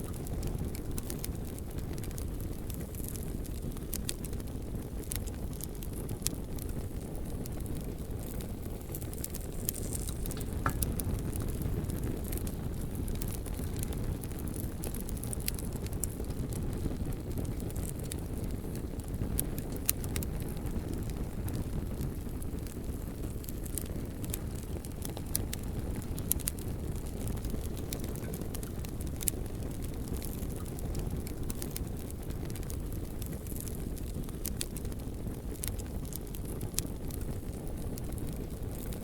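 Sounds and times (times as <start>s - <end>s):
bonfire rumbling: 0.0s - 39.0s
burning logs crackling: 0.0s - 39.0s.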